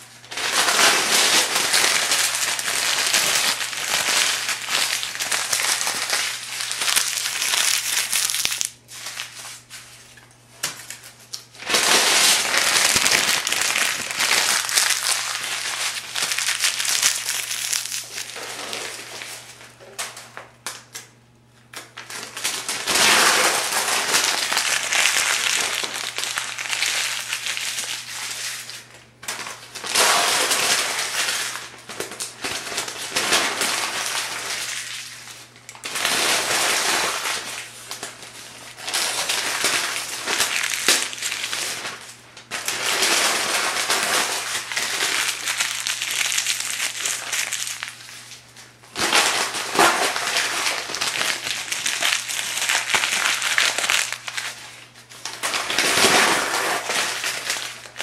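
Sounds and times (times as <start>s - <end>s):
paper pages crumpling: 0.3s - 10.2s, 10.8s - 19.6s, 22.0s - 28.9s, 29.8s - 58.0s.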